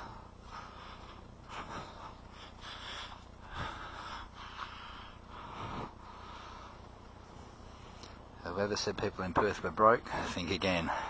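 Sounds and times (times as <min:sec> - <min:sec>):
man breathing: 0:00.0 - 0:08.4, 0:10.1 - 0:11.0.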